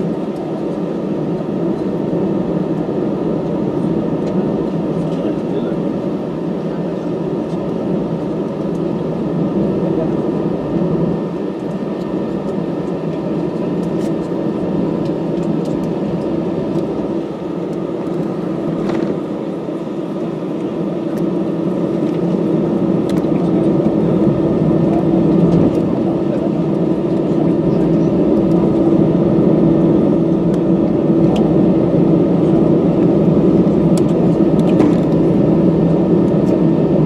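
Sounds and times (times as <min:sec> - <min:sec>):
faint engine whine: 0:00.0 - 0:37.0
jet engines humming: 0:00.0 - 0:37.0.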